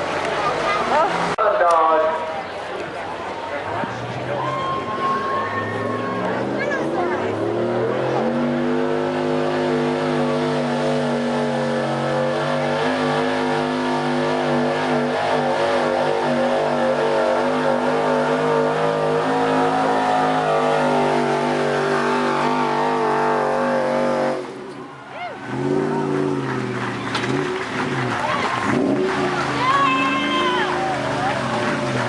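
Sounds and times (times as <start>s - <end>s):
pickup truck engine at high revs: 5.2s - 32.0s.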